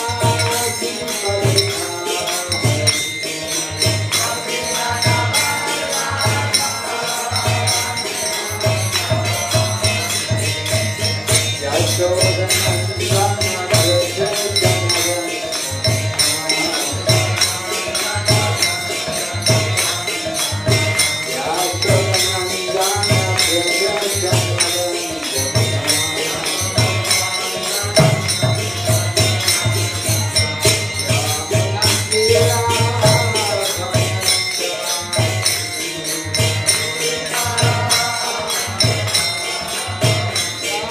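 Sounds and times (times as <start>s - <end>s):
hand cymbals ringing: 0.0s - 40.9s
person singing chanted melody: 0.0s - 40.9s.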